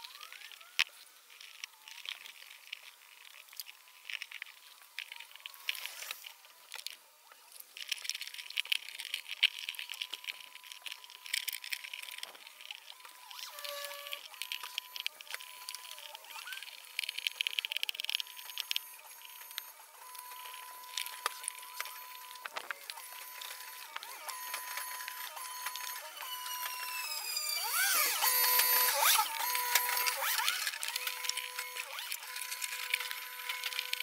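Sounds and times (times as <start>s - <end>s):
plastic sheet crinkling: 0.0s - 34.0s.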